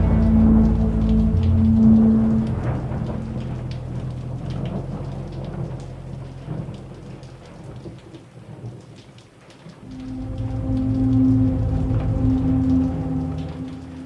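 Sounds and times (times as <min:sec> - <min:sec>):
low roll of thunder: 0:00.0 - 0:08.1, 0:09.8 - 0:14.0
rain falling: 0:00.0 - 0:14.0.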